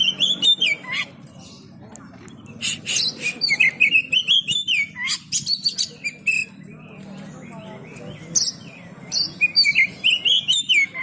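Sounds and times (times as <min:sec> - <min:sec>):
magpie-robin singing whistled phrases: 0:00.0 - 0:01.6, 0:02.6 - 0:06.7, 0:07.6 - 0:11.0.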